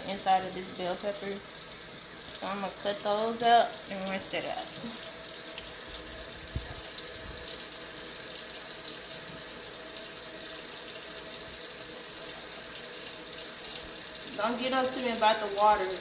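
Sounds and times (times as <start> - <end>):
faucet running into metal sink: 0.0 - 16.0.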